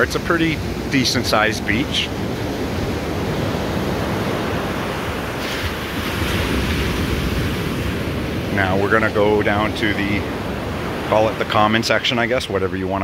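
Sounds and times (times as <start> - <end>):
wind rumble on microphone: 0.0 - 11.4
ocean surf breaking on sand: 0.0 - 13.0.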